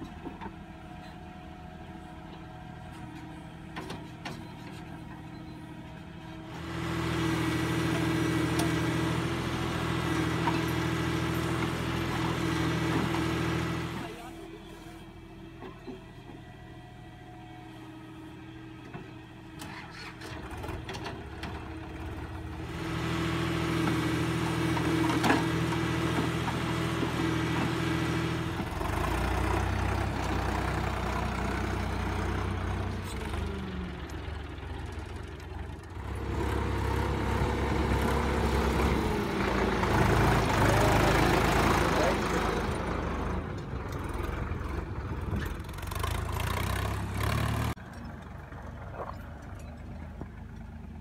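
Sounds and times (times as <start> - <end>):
deep heavy tractor engine: 0.0 - 51.0
diesel tractor engines running: 0.0 - 51.0.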